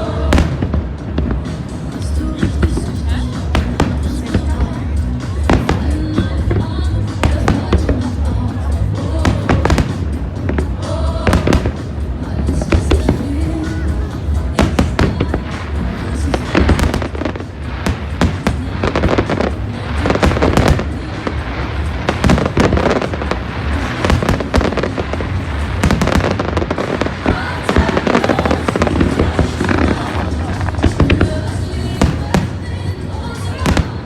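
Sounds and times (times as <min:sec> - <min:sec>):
fireworks bursting and crackling: 0:00.0 - 0:34.0
music playing: 0:00.0 - 0:34.0.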